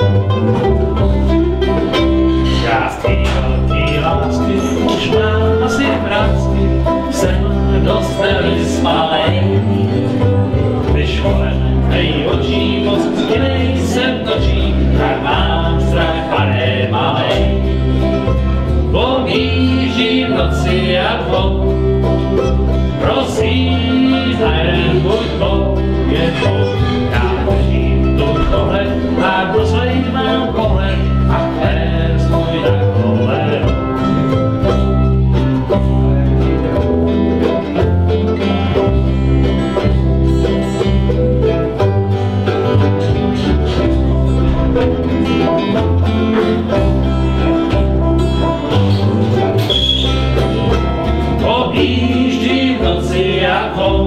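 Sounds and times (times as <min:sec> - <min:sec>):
mandolin: 0:00.0 - 0:54.0
steady bass line: 0:00.0 - 0:54.0
strummed acoustic guitar: 0:00.0 - 0:54.0.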